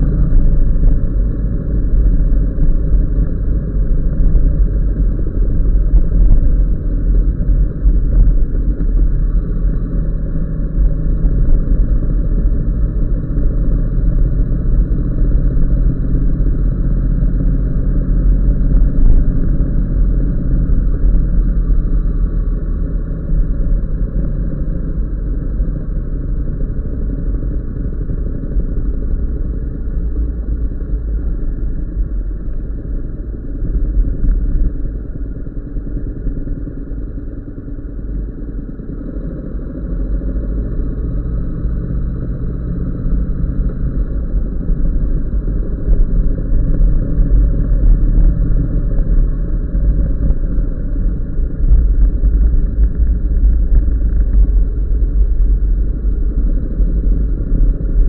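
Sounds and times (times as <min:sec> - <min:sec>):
muffled vehicle engine rumble: 0:00.0 - 0:58.0
road noise: 0:00.0 - 0:58.0.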